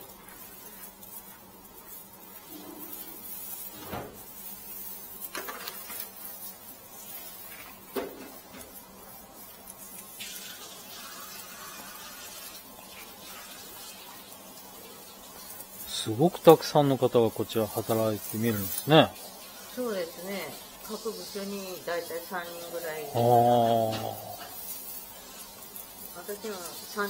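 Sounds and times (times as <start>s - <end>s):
straw rustling and crackling: 0.0s - 10.4s, 15.3s - 27.0s.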